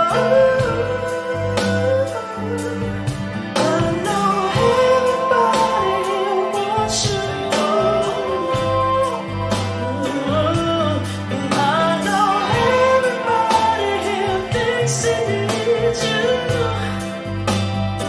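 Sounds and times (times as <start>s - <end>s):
rock folk song with singing: 0.0s - 18.0s.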